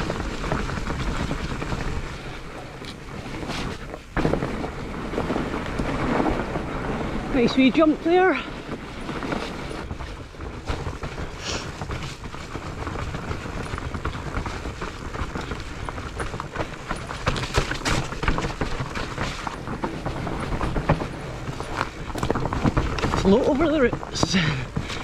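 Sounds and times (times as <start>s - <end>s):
bike knocking and clattering: 0.0s - 25.0s
bike tyres on dirt: 0.0s - 25.0s.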